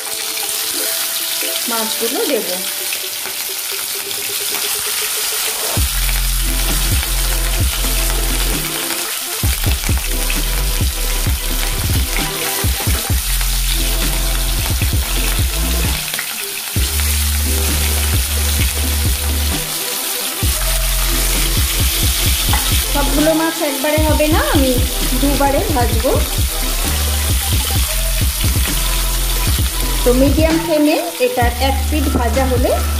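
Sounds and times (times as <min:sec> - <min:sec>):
fish sizzling in hot oil: 0:00.0 - 0:32.9
low background music: 0:00.0 - 0:32.9.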